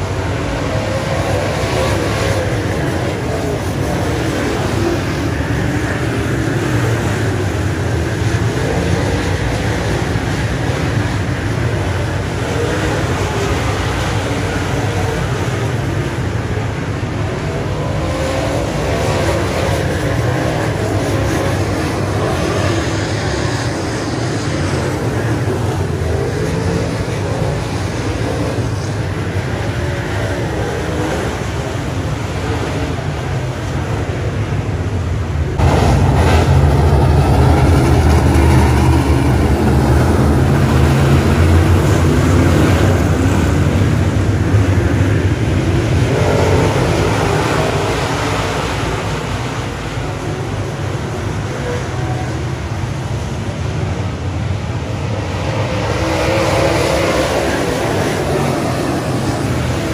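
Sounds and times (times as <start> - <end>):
race car engines rumbling: 0.0 - 59.9.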